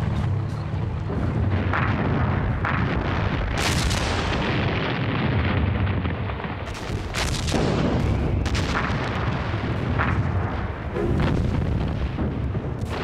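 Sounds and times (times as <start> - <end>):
artillery firing and explosions: 0.0 - 13.0
continuous low rumble: 0.0 - 13.0.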